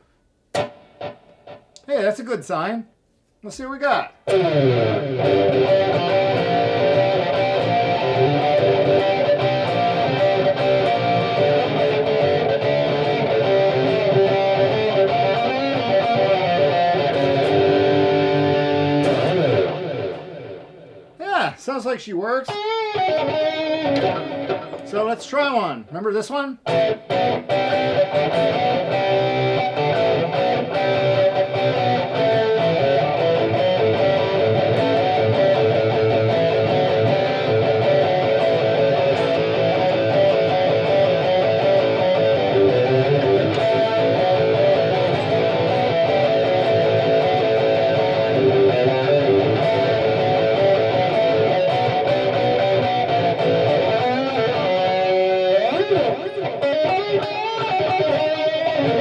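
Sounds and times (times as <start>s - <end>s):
electric guitar riff through amplifier: 0.0s - 1.9s, 4.2s - 21.8s, 22.4s - 26.0s, 26.6s - 59.0s.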